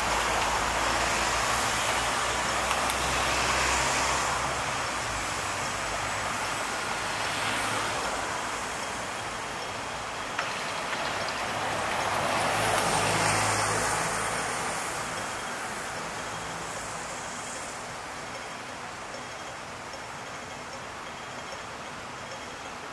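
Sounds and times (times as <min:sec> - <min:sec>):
street traffic noise: 0:00.0 - 0:22.9.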